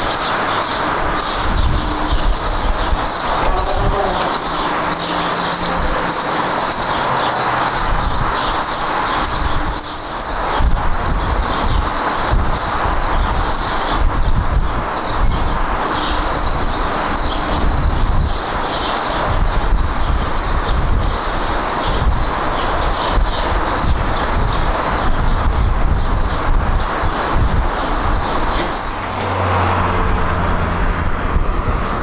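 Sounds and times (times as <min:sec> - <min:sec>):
birds chirping: 0:00.0 - 0:32.0
jet airliner engine rumble: 0:00.0 - 0:32.0.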